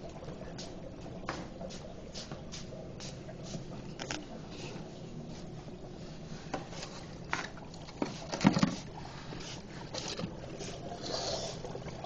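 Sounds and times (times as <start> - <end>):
water bubbling and sloshing: 0.0 - 12.0.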